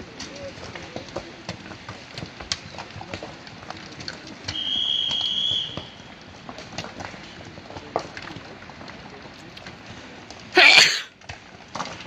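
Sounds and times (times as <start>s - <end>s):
small stones clattering down slope: 0.0s - 12.0s.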